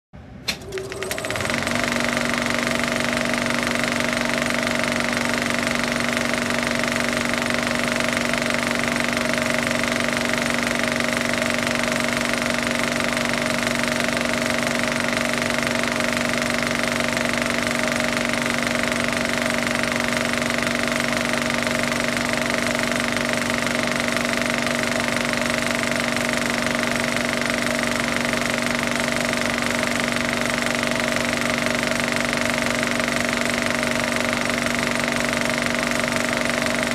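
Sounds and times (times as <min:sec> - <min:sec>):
film projector whirring and clattering: 0:00.3 - 0:36.9.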